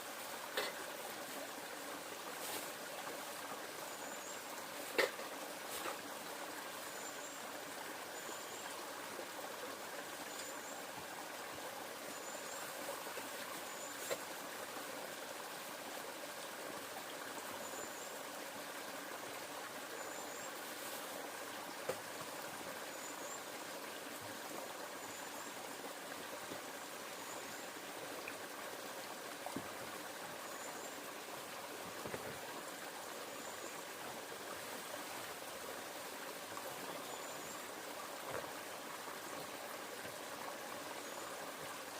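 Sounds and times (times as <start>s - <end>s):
river water running: 0.0s - 41.9s.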